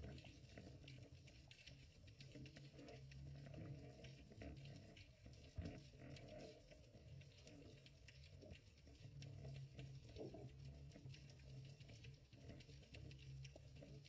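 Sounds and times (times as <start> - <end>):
light ticks and crackles: 0.0 - 14.0
muffled underwater rumble: 0.0 - 14.0.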